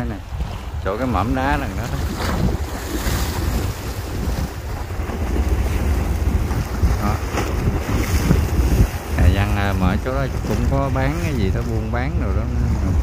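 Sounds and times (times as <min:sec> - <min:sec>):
waves washing against seawall: 0:00.0 - 0:13.0
wind buffeting microphone: 0:00.0 - 0:13.0.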